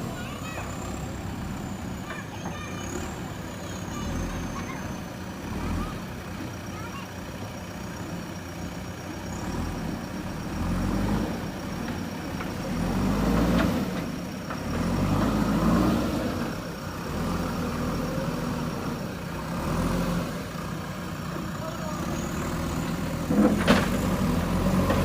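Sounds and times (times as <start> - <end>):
diesel engines revving: 0.0 - 25.0.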